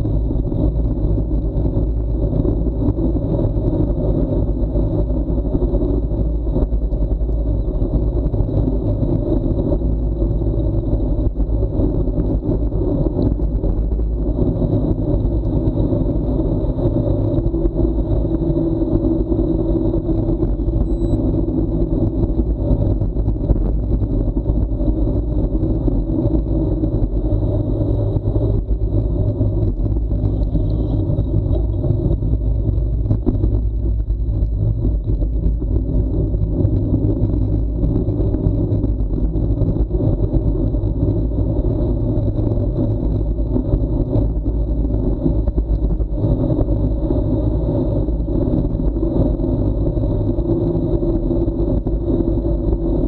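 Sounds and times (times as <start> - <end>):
wind and road noise rumble: 0.0 - 53.0.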